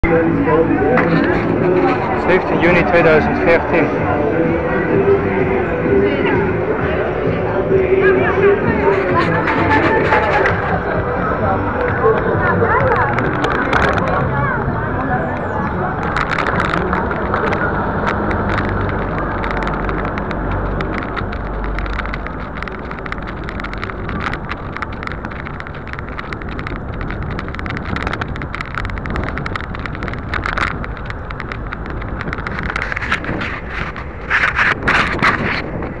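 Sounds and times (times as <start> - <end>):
sharp clicks and rattles: 0.0 - 4.0, 7.9 - 36.0
low rumble of travel: 0.0 - 36.0.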